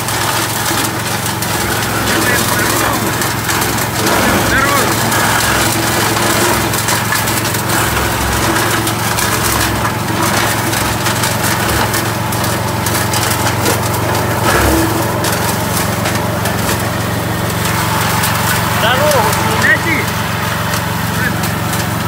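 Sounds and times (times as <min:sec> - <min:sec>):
mower engine running: 0:00.0 - 0:22.0.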